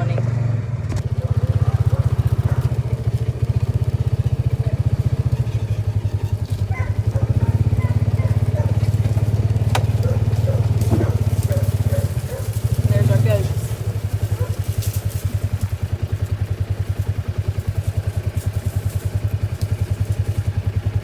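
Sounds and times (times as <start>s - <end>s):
small vehicle engine running: 0.0s - 21.0s.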